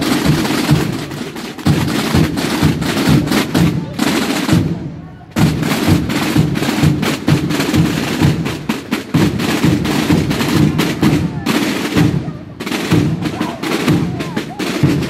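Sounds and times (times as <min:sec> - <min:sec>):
crowd voices: 0:00.0 - 0:15.0
fast drum strokes: 0:00.0 - 0:15.0.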